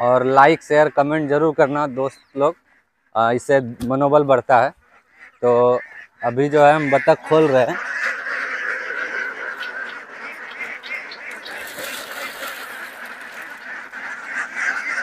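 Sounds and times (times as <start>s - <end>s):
flock of ducks quacking: 0.0s - 3.6s, 4.6s - 15.0s.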